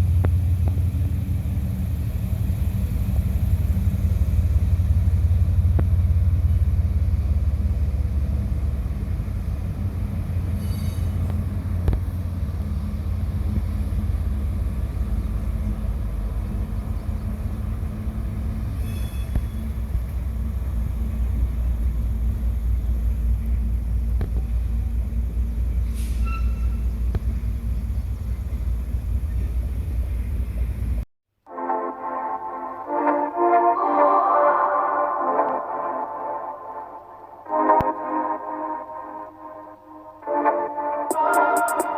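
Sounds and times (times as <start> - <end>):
train rumbling past: 0.0 - 31.0, 34.7 - 41.9.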